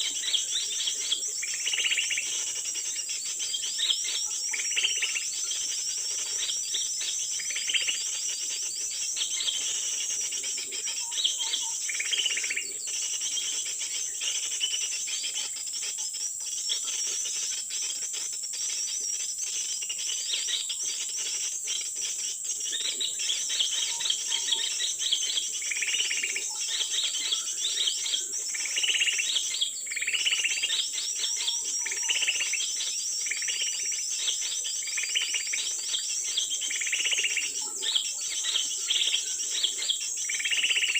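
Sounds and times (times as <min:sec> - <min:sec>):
shrill insect chorus: 0:00.0 - 0:40.9.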